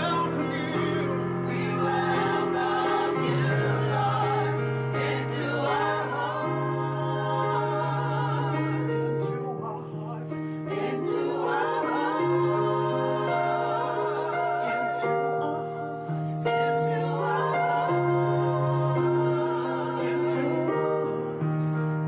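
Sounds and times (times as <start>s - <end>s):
vocal group singing in harmony: 0.0s - 22.0s.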